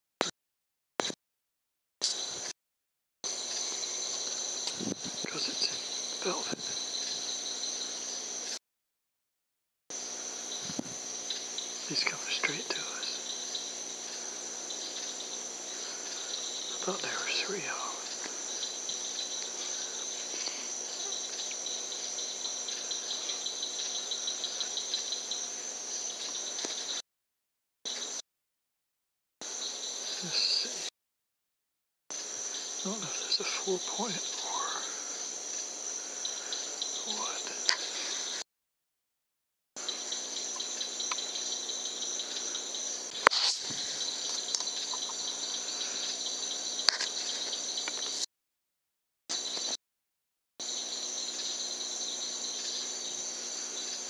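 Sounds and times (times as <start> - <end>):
crickets trilling: 2.0 - 2.5, 3.3 - 8.6, 9.9 - 27.0, 27.9 - 28.2, 29.4 - 30.9, 32.1 - 38.4, 39.8 - 48.3, 49.3 - 49.8, 50.6 - 54.0
pulsing cricket chirp: 2.0 - 2.5, 3.3 - 8.6, 9.9 - 27.0, 27.9 - 28.2, 29.4 - 30.9, 32.1 - 38.4, 39.8 - 48.3, 49.3 - 49.8, 50.6 - 54.0.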